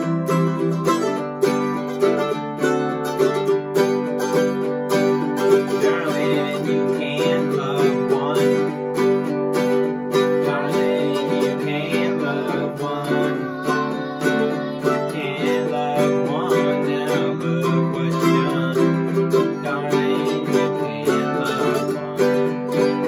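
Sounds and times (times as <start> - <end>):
mandolin plucked notes: 0.0 - 23.0
strummed acoustic string instrument: 0.0 - 23.0.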